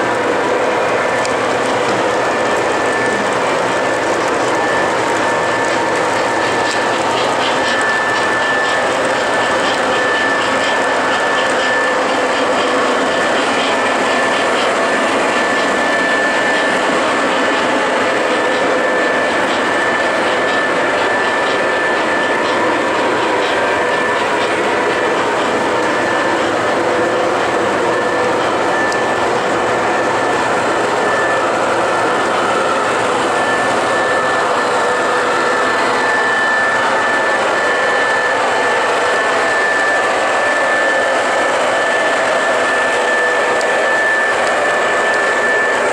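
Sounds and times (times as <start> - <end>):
constant high whine: 0.0 - 45.9
model train running on track: 0.0 - 45.9.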